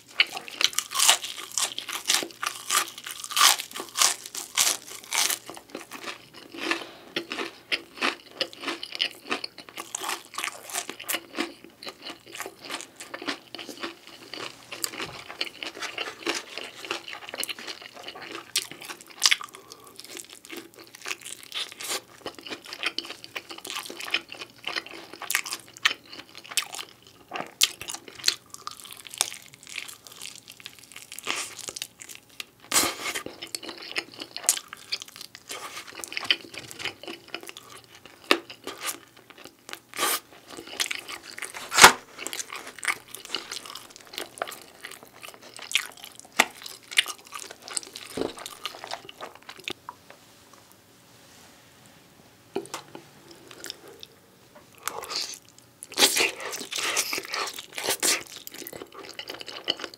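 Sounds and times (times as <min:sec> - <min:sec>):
crunchy chewing: 0:00.1 - 0:49.9, 0:54.7 - 0:59.9.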